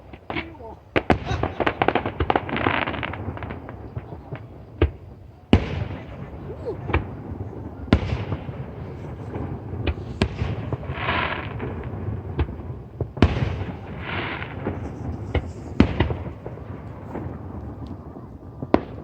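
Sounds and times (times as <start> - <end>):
fireworks booming: 0.0 - 19.0
fireworks crackling: 0.0 - 19.0.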